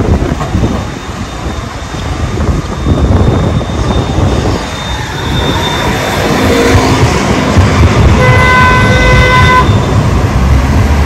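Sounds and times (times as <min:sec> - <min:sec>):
tram rumbling past: 0:00.0 - 0:11.0
wind buffeting microphone: 0:00.0 - 0:11.0.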